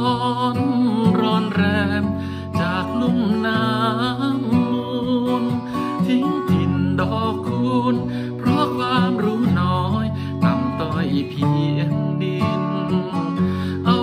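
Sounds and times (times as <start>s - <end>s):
acoustic guitar: 0.0s - 14.0s
man singing: 0.0s - 14.0s.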